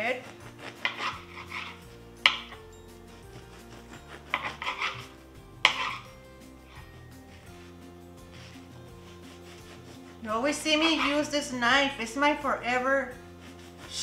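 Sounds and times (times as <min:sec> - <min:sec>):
knife sawing through bread: 0:00.0 - 0:11.6, 0:13.2 - 0:14.0
soft background music: 0:00.0 - 0:14.0.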